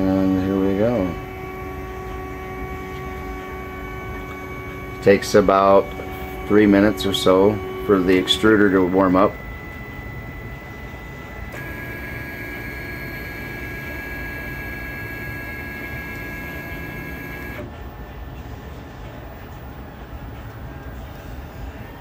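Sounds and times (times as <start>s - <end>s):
printer whine: 0.0s - 22.0s.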